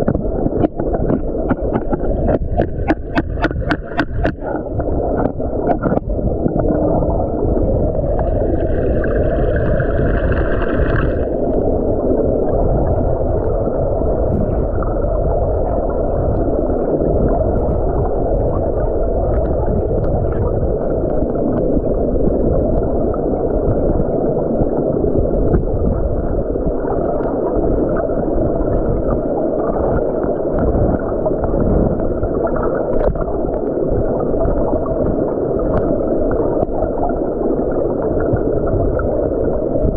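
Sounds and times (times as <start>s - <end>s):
muffled underwater river current: 0.0s - 39.9s.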